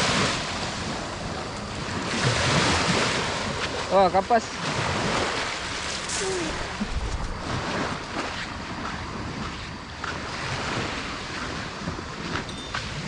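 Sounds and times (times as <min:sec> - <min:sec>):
light surf washing on beach: 0:00.0 - 0:13.0
wind buffeting microphone: 0:00.0 - 0:13.0.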